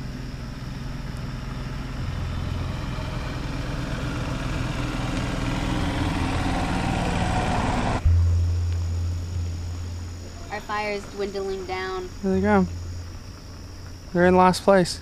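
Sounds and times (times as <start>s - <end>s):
golf cart motors humming: 0.0s - 14.3s.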